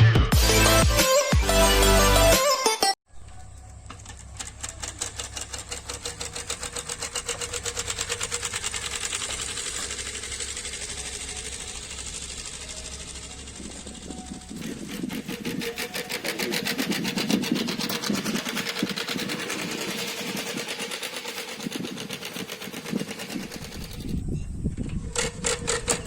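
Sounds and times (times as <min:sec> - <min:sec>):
flap clattering against bicycle spokes: 0:03.2 - 0:26.0.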